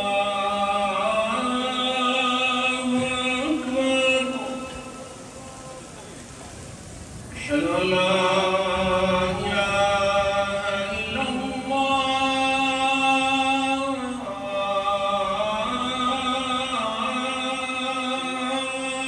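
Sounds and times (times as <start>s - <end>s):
muezzin chanting call to prayer: 0.0s - 19.0s.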